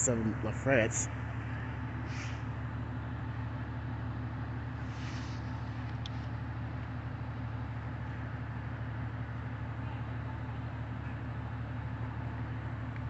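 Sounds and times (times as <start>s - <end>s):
fire truck diesel engines idling: 0.0s - 13.0s.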